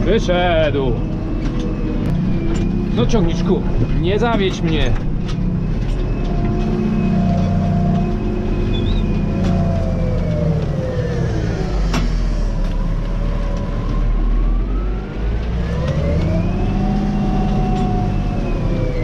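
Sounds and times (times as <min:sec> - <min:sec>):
tractor diesel engine labouring: 0:00.0 - 0:19.0.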